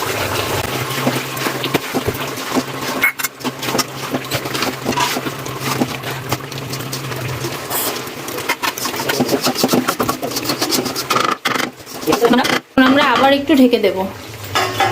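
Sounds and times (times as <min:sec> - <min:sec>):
chicken sizzling: 0:00.0 - 0:14.9
spatula scraping pan: 0:00.8 - 0:13.5.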